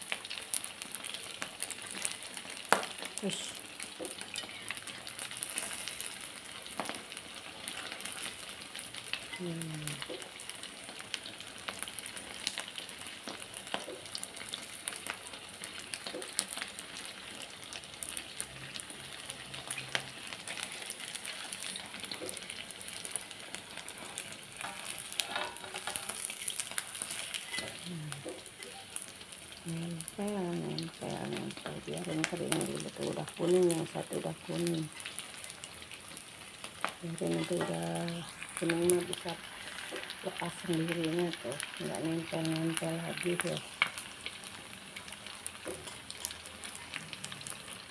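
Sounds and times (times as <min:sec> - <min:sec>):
food sizzling in hot oil: 0:00.0 - 0:47.9
metal spoon stirring in oil: 0:03.8 - 0:09.4, 0:10.0 - 0:29.6, 0:30.8 - 0:40.9, 0:43.2 - 0:47.8.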